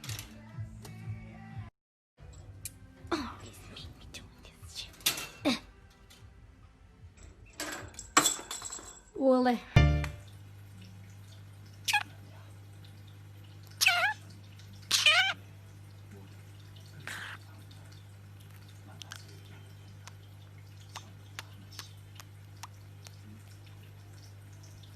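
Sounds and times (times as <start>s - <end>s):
low steady hum: 2.2s - 24.9s.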